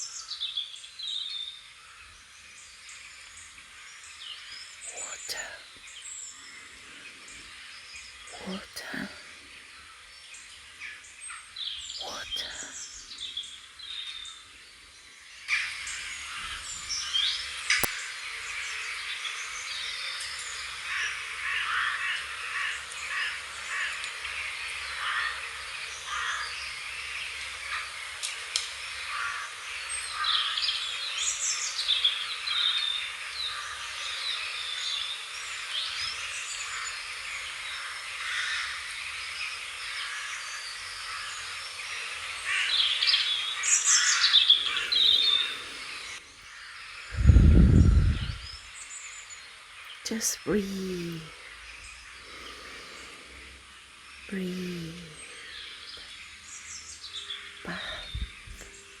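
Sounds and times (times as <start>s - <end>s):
small birds chirping in chorus: 0.0s - 50.0s, 51.3s - 59.0s.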